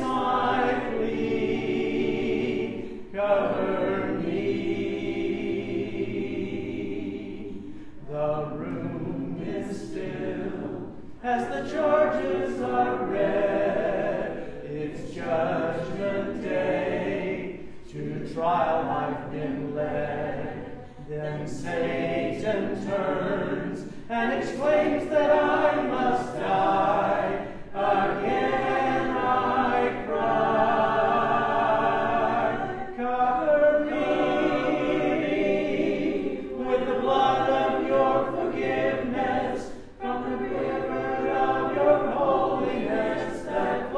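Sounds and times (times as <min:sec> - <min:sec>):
congregation singing a hymn: 0:00.0 - 0:43.9.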